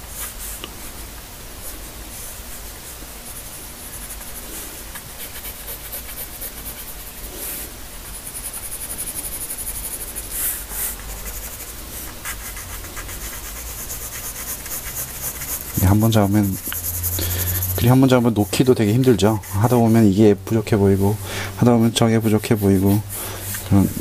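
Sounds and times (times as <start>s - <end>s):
pencil shading on paper: 3.3s - 7.4s, 8.1s - 24.0s.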